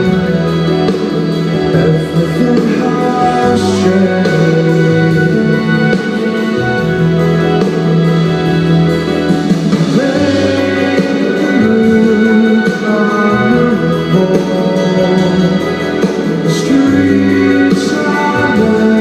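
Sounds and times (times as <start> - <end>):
live band playing slow song: 0.0 - 19.0.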